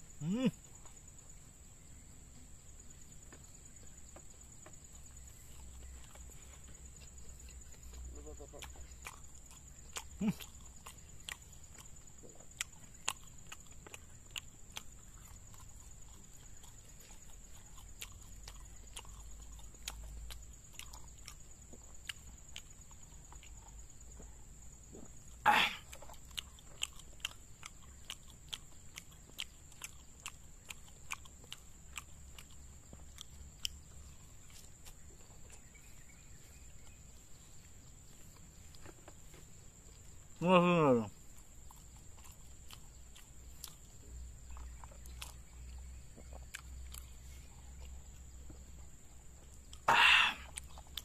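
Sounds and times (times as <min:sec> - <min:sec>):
wet chewing and mouth clicks: 0:02.7 - 0:51.0.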